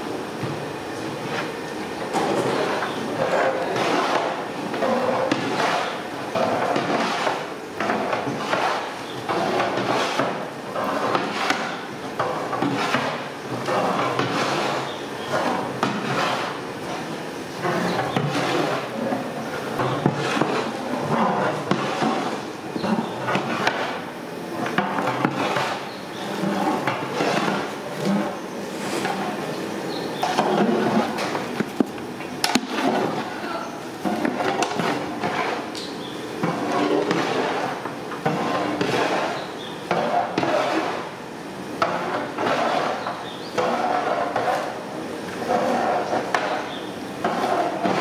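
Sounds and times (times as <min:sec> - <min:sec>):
metal paddle scraping pot: 0:02.1 - 0:48.0.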